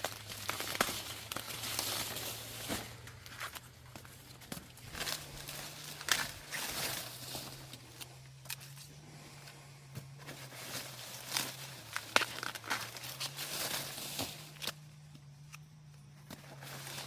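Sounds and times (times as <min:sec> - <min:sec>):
corn husks snapping: 0:00.0 - 0:08.9, 0:11.1 - 0:17.0
dry corn husks rustling: 0:00.0 - 0:17.0.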